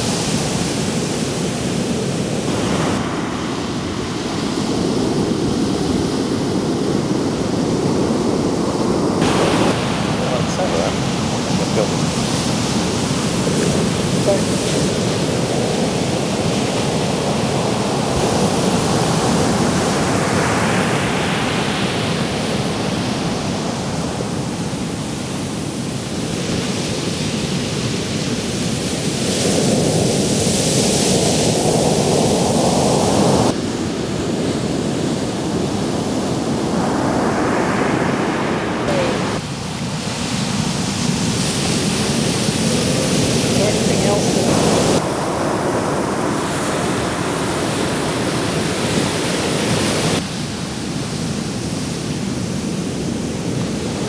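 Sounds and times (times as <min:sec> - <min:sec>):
ocean surf breaking on sand: 0:00.0 - 0:54.0.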